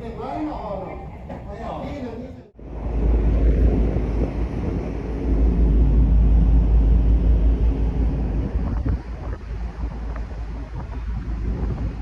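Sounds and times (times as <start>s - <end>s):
ferry engine rumble: 0.0s - 12.0s
wind buffeting microphone: 0.0s - 12.0s.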